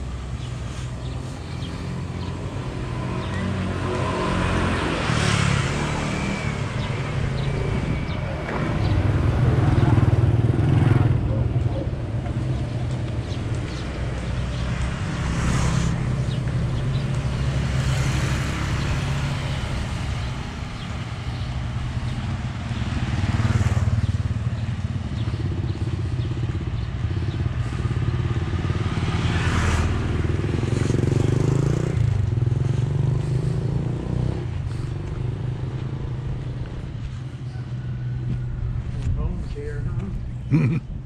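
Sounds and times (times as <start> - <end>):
motorbikes passing: 0.0 - 41.0.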